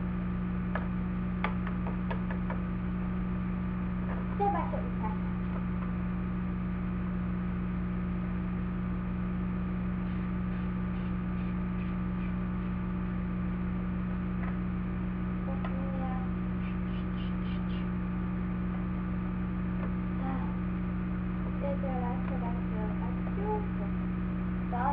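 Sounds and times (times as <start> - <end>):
low electrical hum: 0.0 - 24.9.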